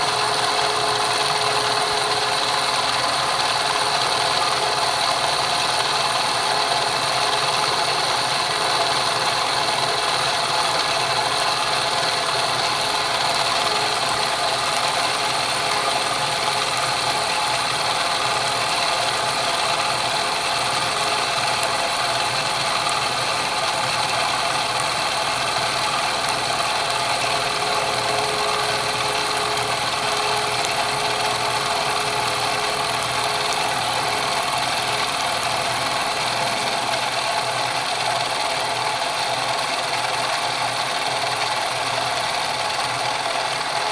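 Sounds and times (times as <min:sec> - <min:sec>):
fly cutter cutting metal: 0:00.0 - 0:39.5
milling spindle hum: 0:00.0 - 0:43.9.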